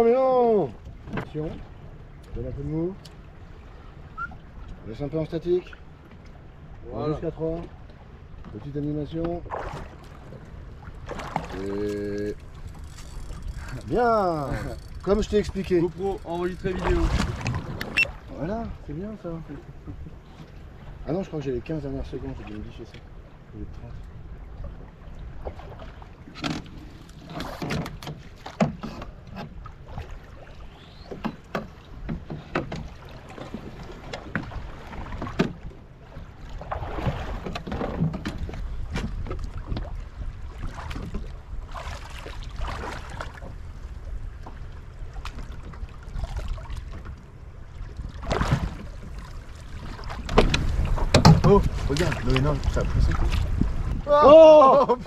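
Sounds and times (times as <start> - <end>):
water lapping against boat hull: 0.0 - 55.0.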